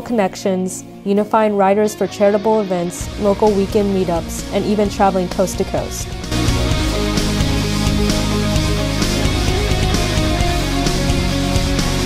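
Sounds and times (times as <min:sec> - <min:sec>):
rock music with electric guitar: 0:01.9 - 0:12.0.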